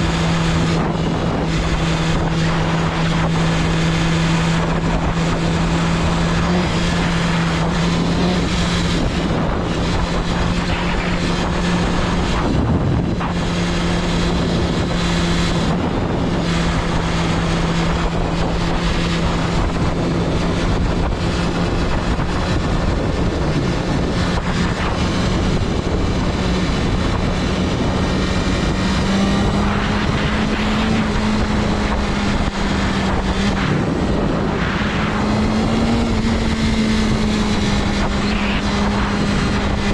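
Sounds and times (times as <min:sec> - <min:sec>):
motorcycle engine cruising: 0:00.0 - 0:39.9
wind rushing: 0:00.0 - 0:39.9.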